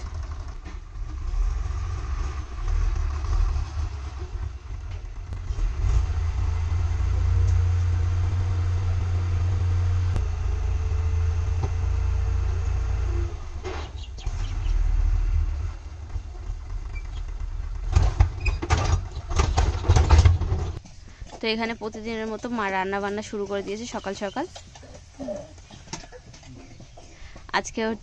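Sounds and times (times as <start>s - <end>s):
tractor engine rumbling: 0.0s - 28.0s.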